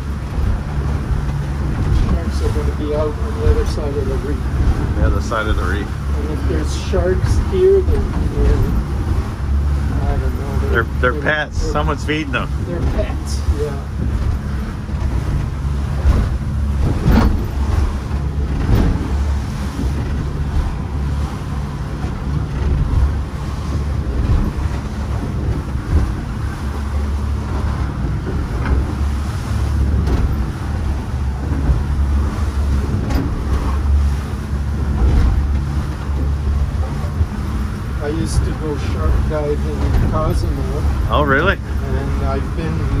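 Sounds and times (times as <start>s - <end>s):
boat engine humming: 0.0s - 43.0s
water splashing: 0.0s - 43.0s
wind buffeting microphone: 0.0s - 43.0s.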